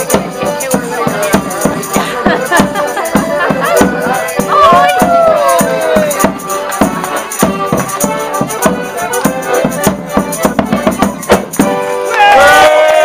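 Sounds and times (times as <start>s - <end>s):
drum beating steadily: 0.0s - 12.1s
melodeon dance tune: 0.0s - 12.4s
tambourine jingling: 0.0s - 12.5s.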